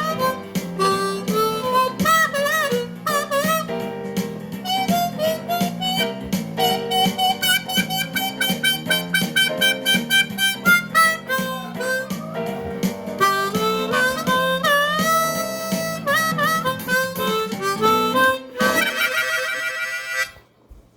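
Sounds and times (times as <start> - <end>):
blues harmonica: 0.0 - 20.5.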